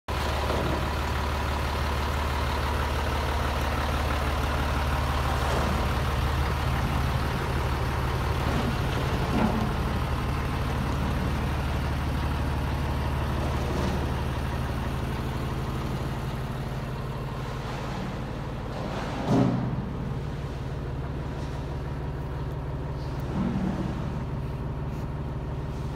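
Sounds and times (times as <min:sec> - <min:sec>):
diesel engine idling: 0:00.1 - 0:25.9.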